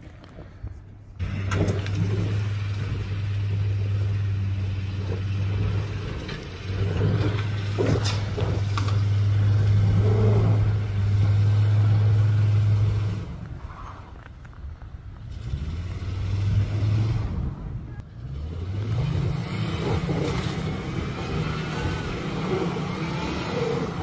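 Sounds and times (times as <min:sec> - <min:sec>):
suv engine pulling under load: 0:01.2 - 0:24.0.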